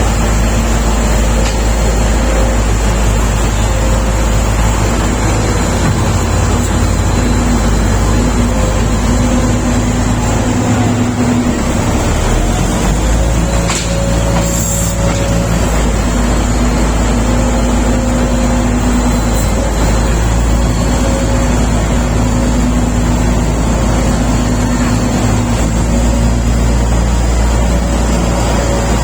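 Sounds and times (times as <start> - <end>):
bulldozer diesel engine droning: 0.0 - 29.0.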